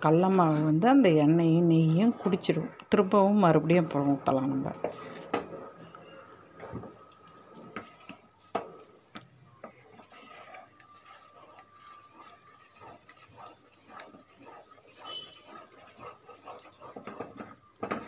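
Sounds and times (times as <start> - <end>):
utensil scraping thick batter: 0.0 - 5.8, 6.7 - 18.0.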